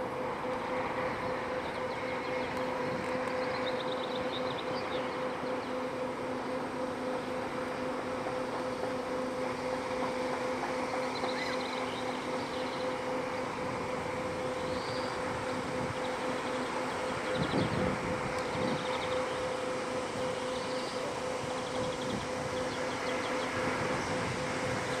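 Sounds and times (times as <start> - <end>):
ship machinery hum: 0.0 - 25.0.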